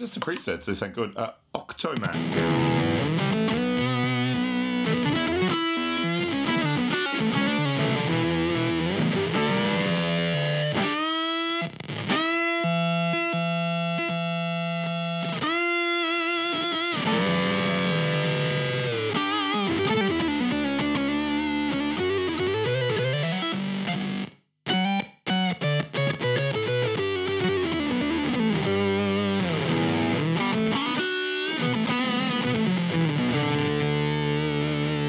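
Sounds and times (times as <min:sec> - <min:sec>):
distorted fuzz electric guitar: 0:02.1 - 0:24.3, 0:25.4 - 0:35.0.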